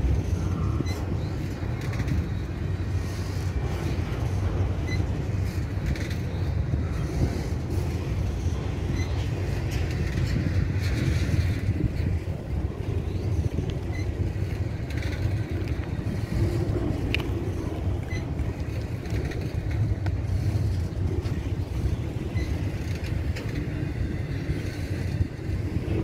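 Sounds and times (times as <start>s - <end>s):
freight train wheels rumbling on rail: 0.0s - 26.0s.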